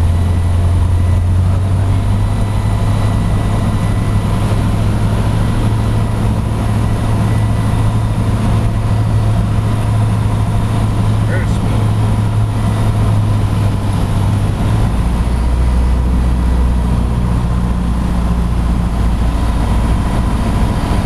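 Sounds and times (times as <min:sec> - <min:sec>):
airplane engine and propeller drone: 0:00.0 - 0:21.0.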